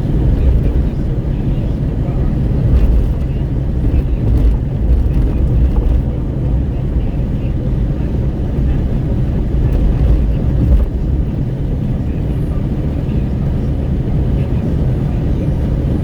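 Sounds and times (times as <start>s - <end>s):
tyre and road noise: 0.0s - 16.0s
wind buffeting through car window: 0.0s - 16.0s.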